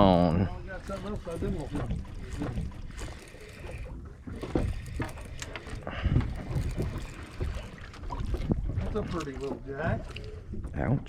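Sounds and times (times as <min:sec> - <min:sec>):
gear knocking against hull: 0:00.6 - 0:09.6.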